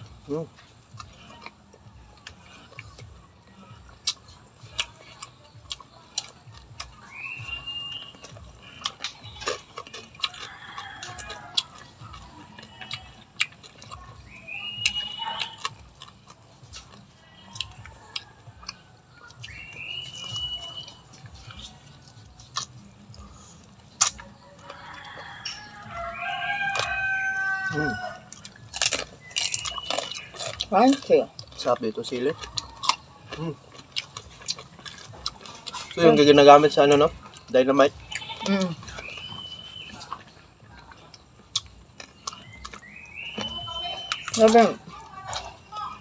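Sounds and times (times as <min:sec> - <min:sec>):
crunchy bites and chewing: 0:00.0 - 0:46.0.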